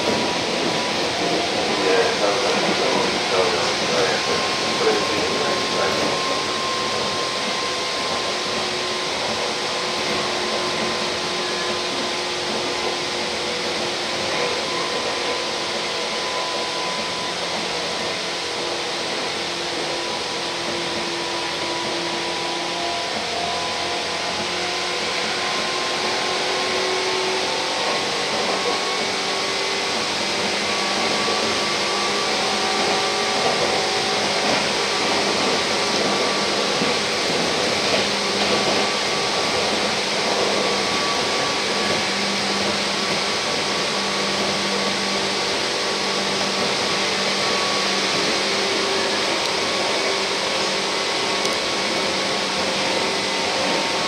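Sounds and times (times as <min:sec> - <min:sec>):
train wheels rushing on rails: 0:00.0 - 0:54.0.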